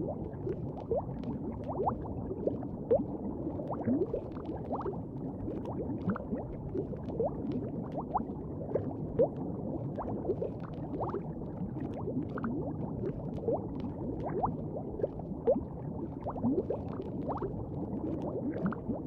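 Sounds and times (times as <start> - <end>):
liquid bubbling: 0.0 - 19.0.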